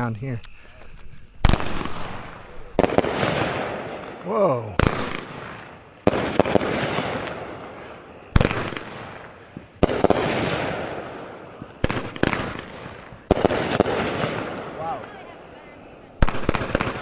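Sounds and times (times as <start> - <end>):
firework crackling hiss: 0.0 - 17.0
firework bangs: 1.3 - 17.0.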